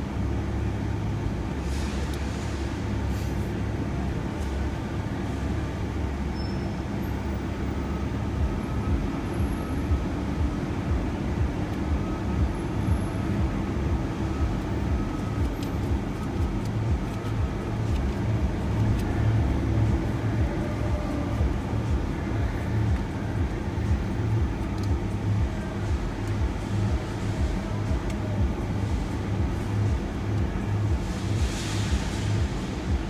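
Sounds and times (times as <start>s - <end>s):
van road and engine rumble: 0.0s - 33.0s.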